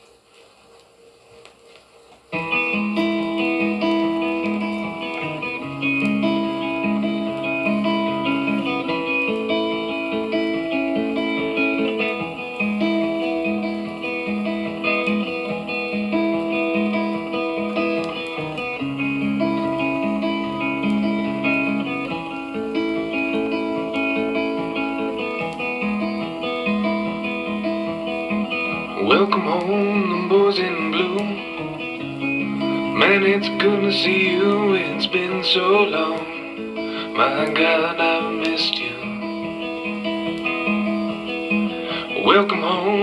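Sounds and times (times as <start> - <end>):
faint background noise: 0.0 - 43.0
plucked and strummed guitar: 1.7 - 43.0.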